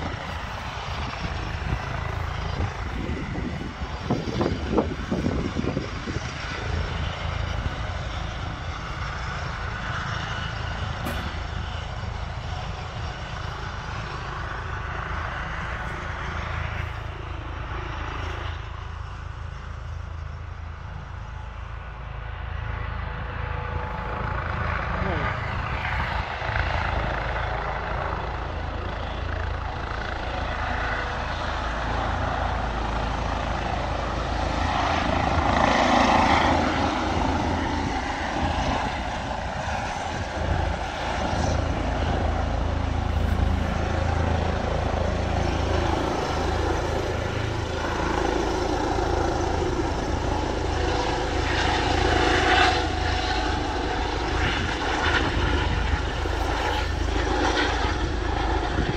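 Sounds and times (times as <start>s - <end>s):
helicopter rotor and turbine noise: 0.0s - 58.9s.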